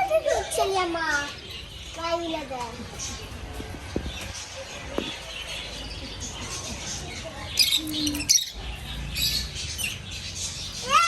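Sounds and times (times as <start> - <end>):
birds chirping chatter: 0.0 - 11.0.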